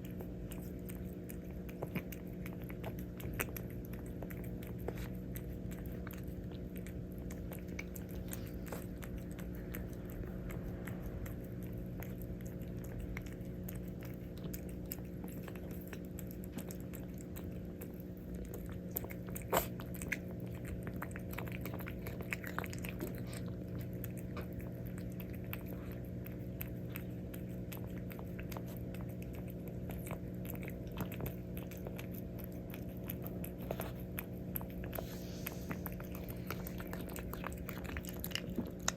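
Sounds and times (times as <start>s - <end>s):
cat crunching food: 0.0s - 38.9s
low hum: 0.0s - 38.9s.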